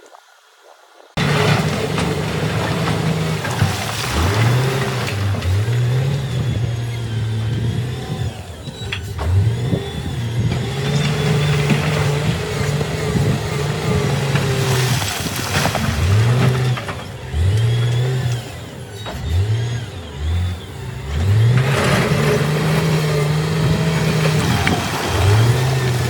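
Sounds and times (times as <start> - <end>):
diesel engine revving: 1.2 - 26.0.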